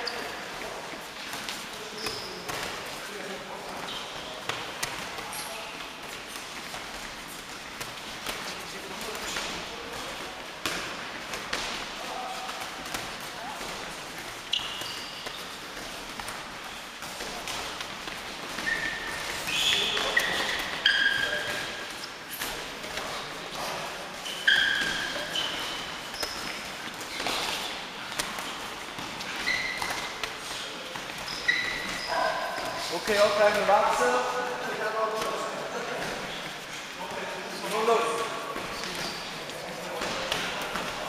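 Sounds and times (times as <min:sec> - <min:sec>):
shoes squeaking on floor: 0:00.0 - 0:41.0.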